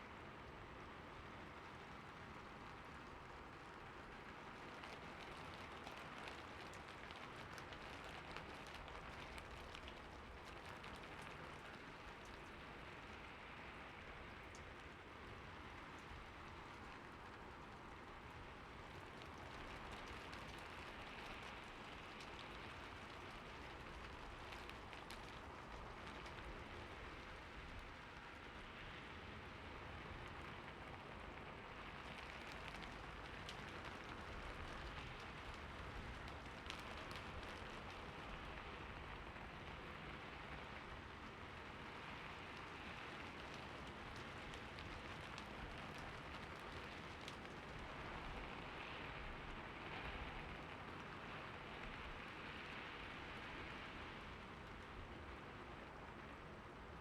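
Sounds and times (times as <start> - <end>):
steady rain: 0.0 - 57.0
raindrop ticks: 2.3 - 56.3.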